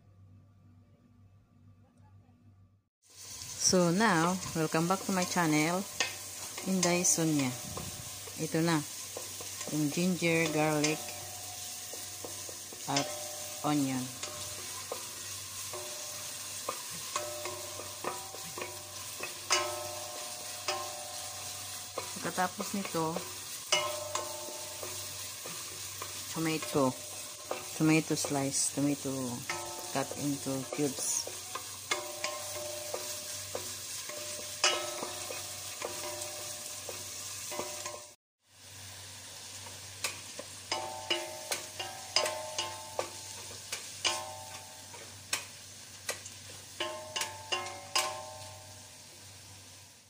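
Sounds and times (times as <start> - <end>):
food sizzling in a pot: 3.0 - 50.0.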